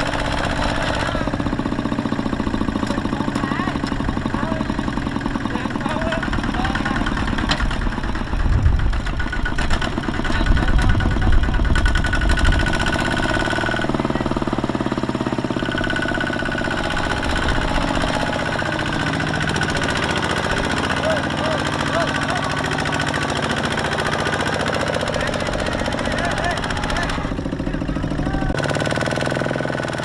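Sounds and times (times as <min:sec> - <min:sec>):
diesel tractor engine chugging: 0:00.0 - 0:30.0.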